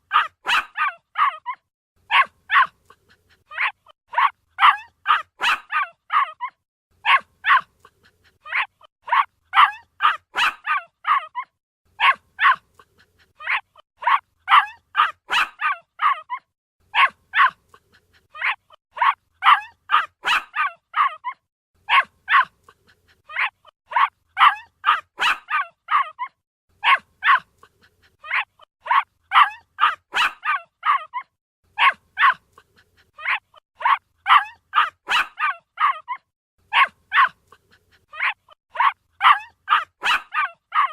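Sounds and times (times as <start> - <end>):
puppy yapping: 0.1 - 40.9.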